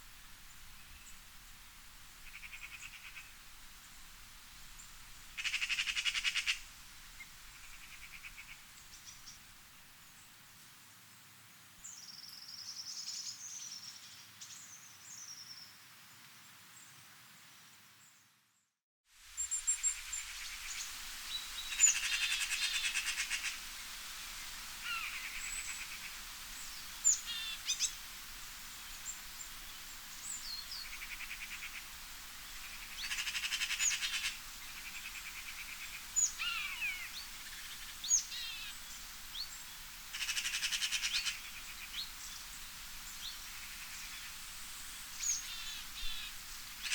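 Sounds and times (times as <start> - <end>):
wind in trees: 0.0 - 46.9.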